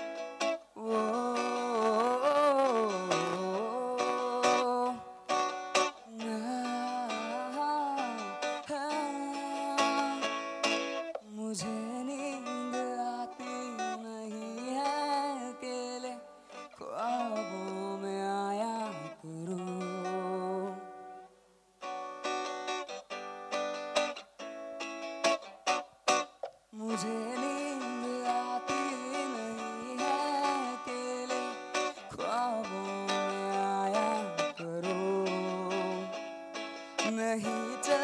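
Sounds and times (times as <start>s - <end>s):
young man singing: 0.0s - 21.2s, 26.7s - 38.0s
acoustic guitar strumming: 0.0s - 38.0s.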